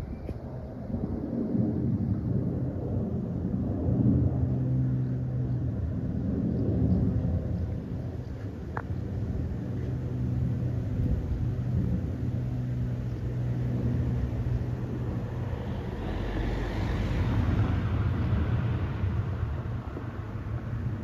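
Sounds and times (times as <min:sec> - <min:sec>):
aircraft engine rumble: 0:00.0 - 0:21.0
rushing hiss of passing aircraft: 0:00.7 - 0:21.0.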